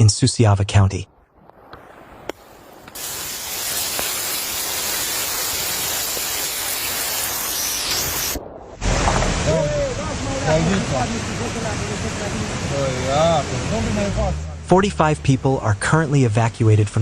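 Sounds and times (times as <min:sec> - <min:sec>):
floodwater rushing: 0:01.2 - 0:15.4.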